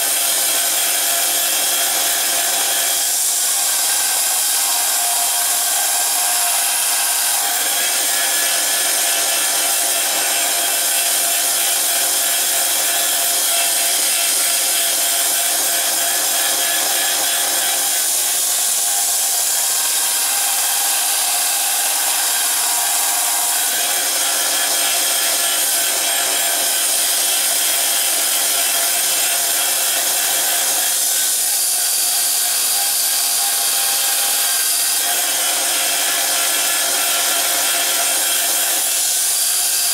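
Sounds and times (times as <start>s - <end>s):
belt sander grinding blade: 0.0s - 39.9s.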